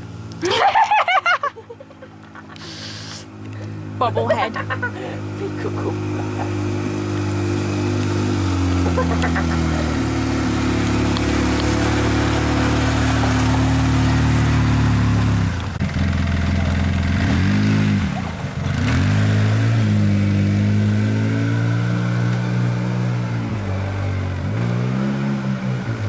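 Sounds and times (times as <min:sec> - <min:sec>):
motorboat engine revving: 0:01.9 - 0:26.0.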